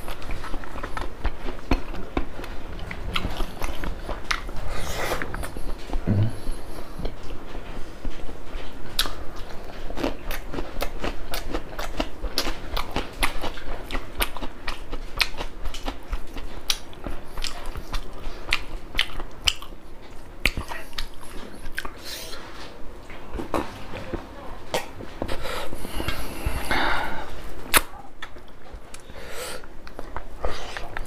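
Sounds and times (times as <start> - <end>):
chewing food: 0.0 - 31.0.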